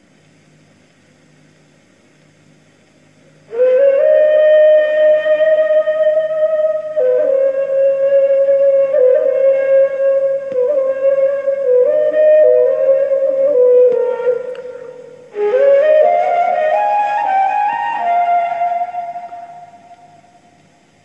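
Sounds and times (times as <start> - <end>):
reed flute playing long notes: 3.5 - 20.6.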